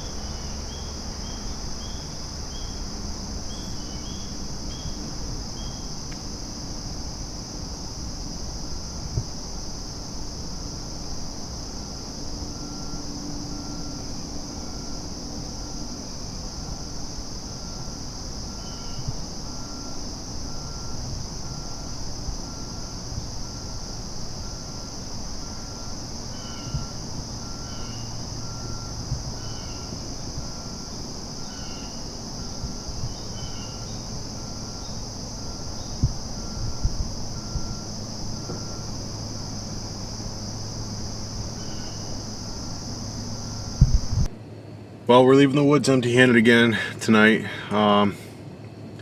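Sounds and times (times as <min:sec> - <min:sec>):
insect chirping: 0:00.0 - 0:44.3
crickets and katydids buzzing: 0:00.0 - 0:44.4
low hum: 0:00.0 - 0:47.7.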